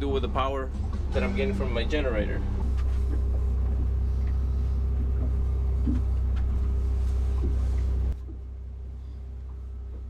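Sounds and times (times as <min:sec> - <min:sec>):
air conditioning hum: 0:00.0 - 0:10.0.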